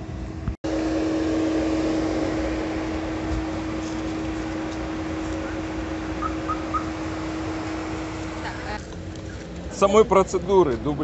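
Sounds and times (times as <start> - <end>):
constant hum: 0.0 - 11.0
street and vehicle noise: 0.0 - 11.0.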